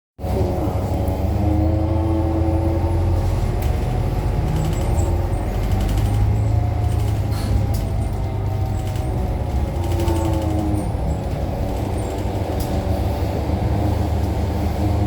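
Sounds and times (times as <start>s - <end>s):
bus low hum: 0.2s - 15.0s.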